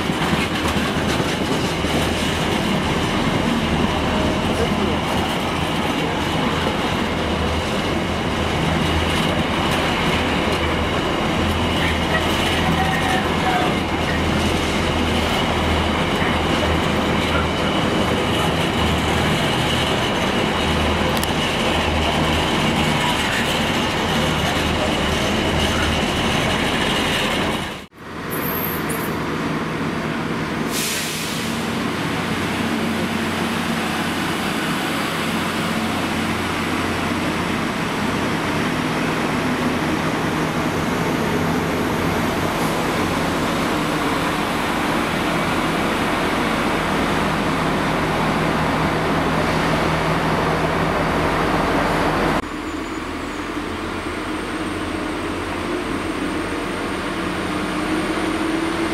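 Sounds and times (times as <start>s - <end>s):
freight train wheels rumbling: 0.0s - 58.9s
passenger train passing close: 0.0s - 58.9s.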